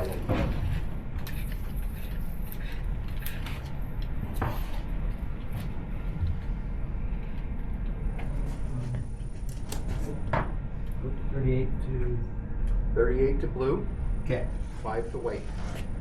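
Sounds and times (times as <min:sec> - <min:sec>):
low room rumble: 0:00.0 - 0:16.0.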